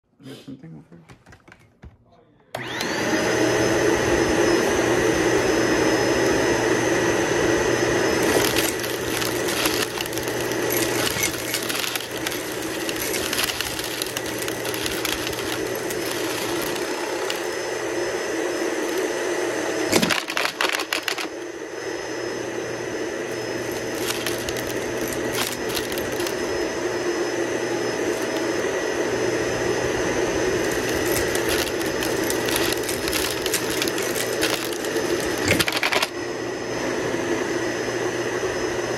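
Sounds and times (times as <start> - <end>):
toy vacuum cleaner running: 2.5 - 38.9.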